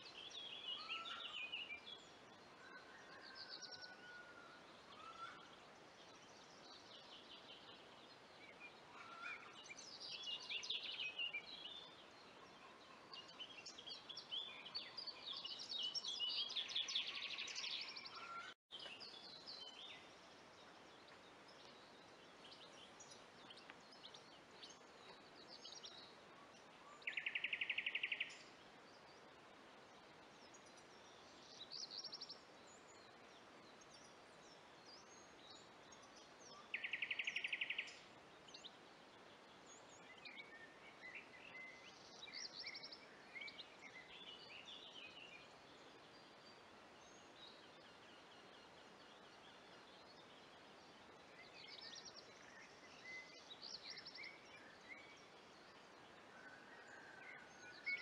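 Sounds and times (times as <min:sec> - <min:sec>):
faint background hiss: 0:00.0 - 0:58.0.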